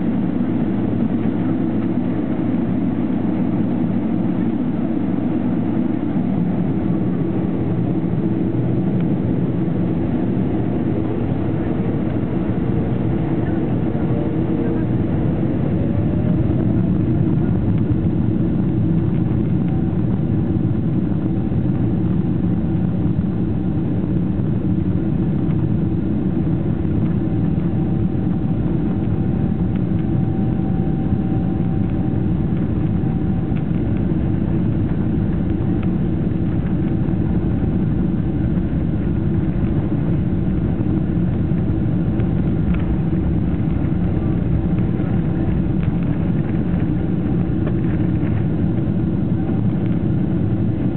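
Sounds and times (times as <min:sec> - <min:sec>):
airplane cabin rumble: 0:00.0 - 0:50.9
faint steady whine: 0:00.0 - 0:50.9.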